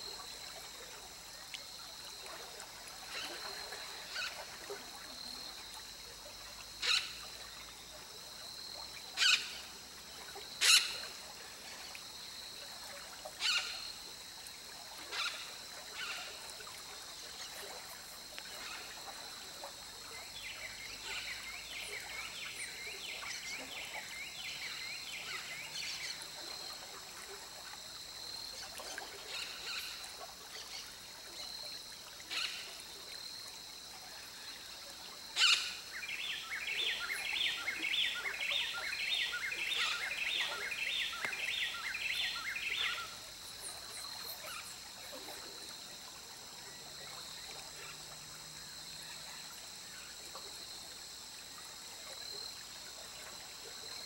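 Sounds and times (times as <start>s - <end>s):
creek water running: 0.0s - 54.0s.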